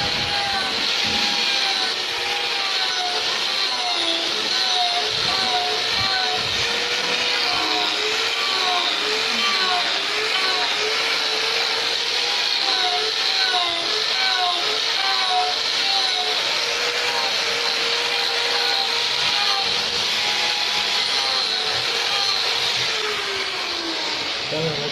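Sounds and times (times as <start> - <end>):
hiss of cutting timber: 0.0 - 24.9
sawmill saw whining: 0.0 - 24.9.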